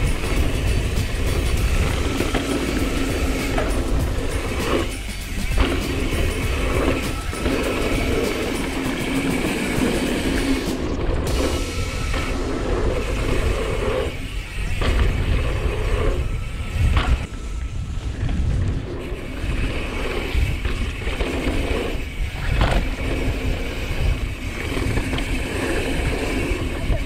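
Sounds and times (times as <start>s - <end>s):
mountain bike rumble and rattle: 0.0s - 27.0s
wind buffeting microphone: 0.0s - 27.0s.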